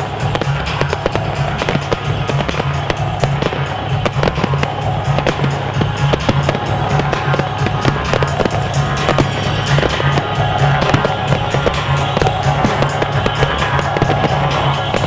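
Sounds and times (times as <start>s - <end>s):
fireworks bursting: 0.0s - 15.0s
loud music with pulsing beat: 0.0s - 15.0s.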